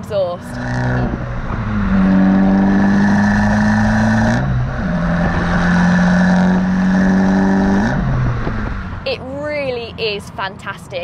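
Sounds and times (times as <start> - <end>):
car engine accelerating: 0.1 - 9.2.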